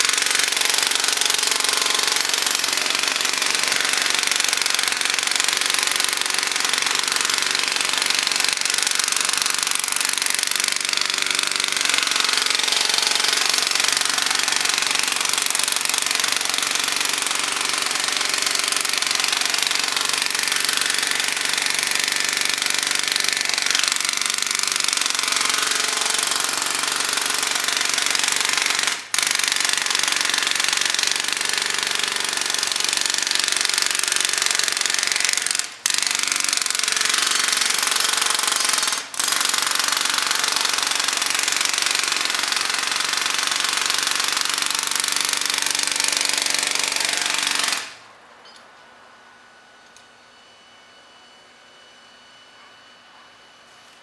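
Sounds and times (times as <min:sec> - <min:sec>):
jackhammer hammering: 0:00.0 - 0:48.0.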